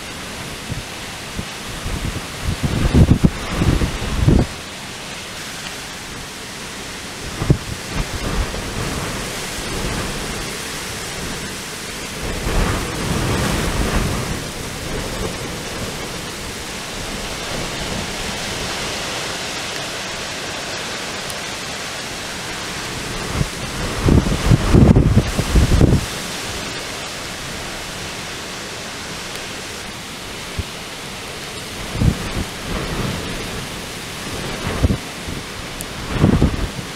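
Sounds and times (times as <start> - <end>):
wind gusts buffeting microphone: 0.0 - 36.9
wind rushing through trees: 0.0 - 36.9.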